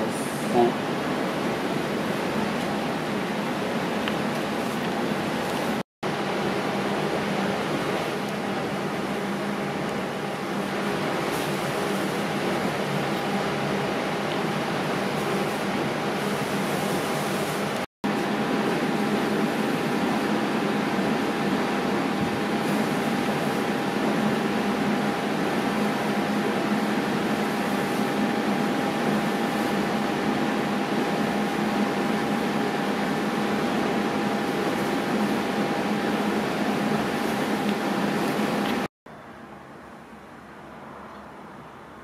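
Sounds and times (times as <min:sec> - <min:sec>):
fan motor whirring: 0:00.0 - 0:38.9.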